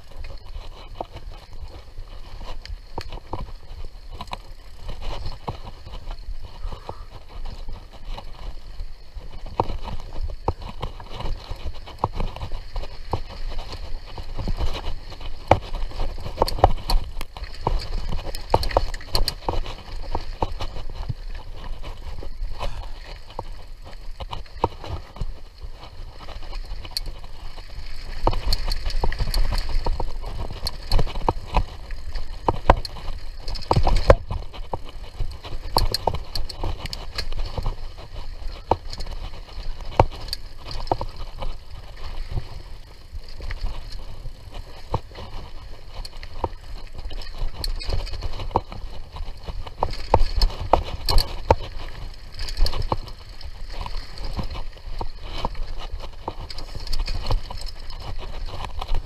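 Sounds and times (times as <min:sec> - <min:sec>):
bike knocking and rattling: 0:00.0 - 0:59.0
mountain bike tyres rumbling: 0:00.0 - 0:59.0.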